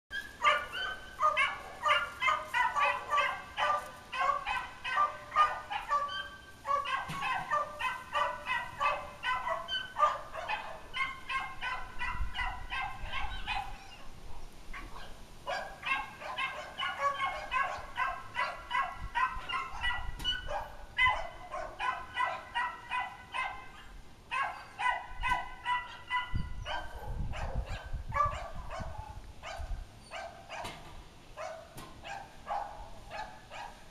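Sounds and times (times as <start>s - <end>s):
animals calling: 0.1s - 30.8s.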